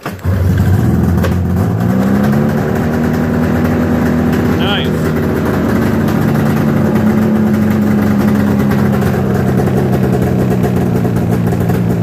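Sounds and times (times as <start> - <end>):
snowmobile engine running: 0.2 - 12.0.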